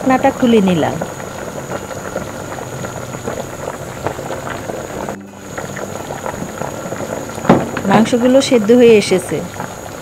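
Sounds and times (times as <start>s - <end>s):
pot of curry boiling hard: 0.0s - 10.0s.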